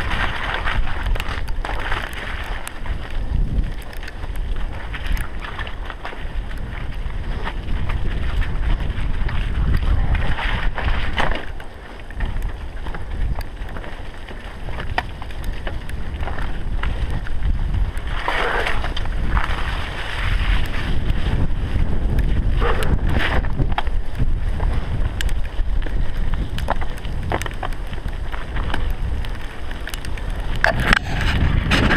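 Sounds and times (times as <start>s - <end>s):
bicycle rattling over bumps: 0.0s - 31.9s
wind buffeting microphone: 0.0s - 31.9s.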